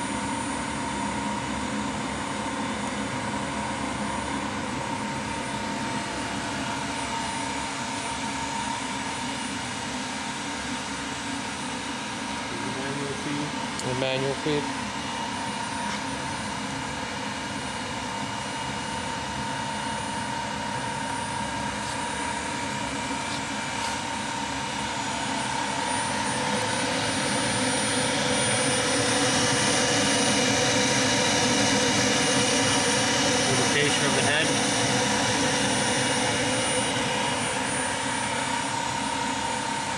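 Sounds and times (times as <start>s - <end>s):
grinder machine hum with whine: 0.0s - 39.9s.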